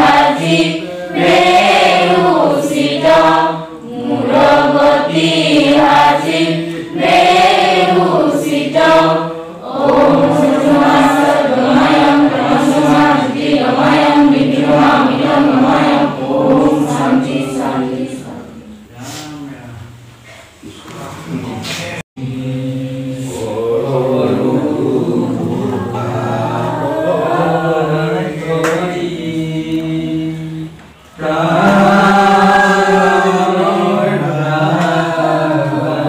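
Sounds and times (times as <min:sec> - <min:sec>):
group chanting a prayer: 0:00.0 - 0:36.0.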